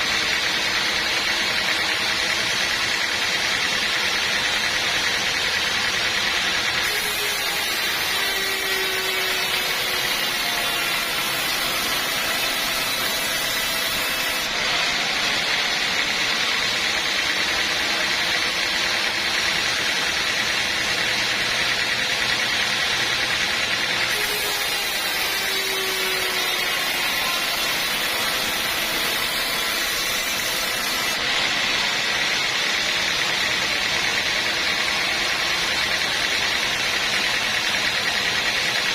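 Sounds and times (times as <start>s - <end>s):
sawmill saw and machinery: 0.0s - 38.9s.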